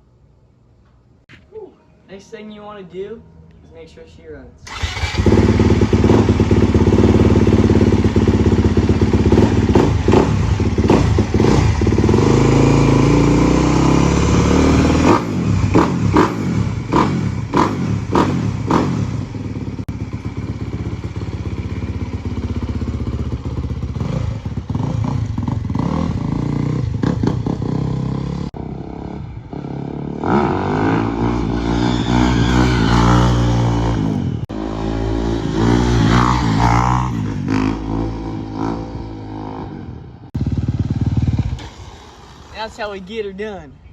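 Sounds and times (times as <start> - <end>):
dirt bike engine revving: 4.7 - 43.4.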